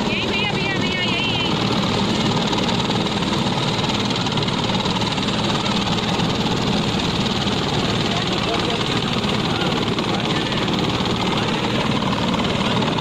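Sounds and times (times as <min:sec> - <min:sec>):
helicopter engine and rotor idling: 0:00.0 - 0:13.0.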